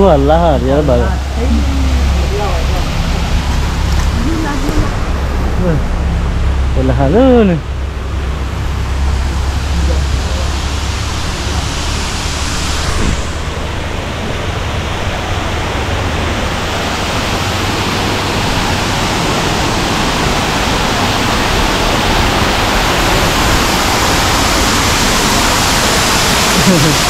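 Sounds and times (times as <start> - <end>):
low rumble: 0.0 - 26.8
waterfall rushing: 0.0 - 27.0.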